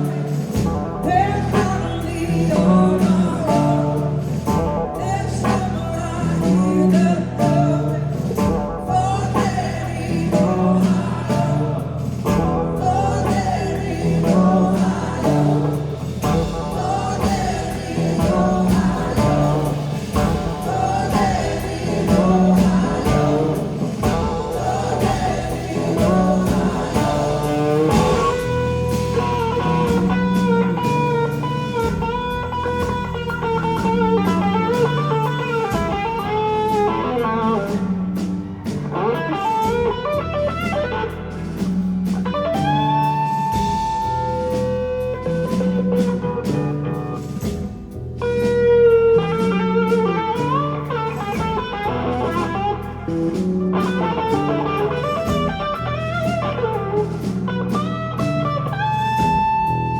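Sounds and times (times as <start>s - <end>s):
electric guitar bending notes: 0.0s - 59.9s
live rock band playing: 0.0s - 59.9s.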